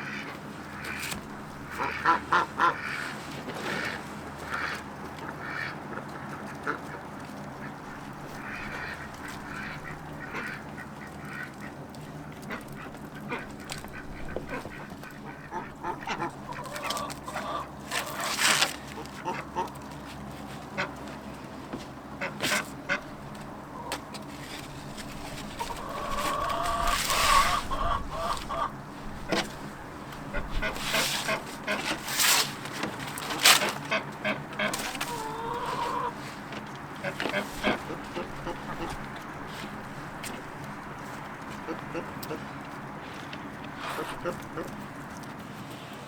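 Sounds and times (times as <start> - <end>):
poultry calling: 0.0 - 45.4.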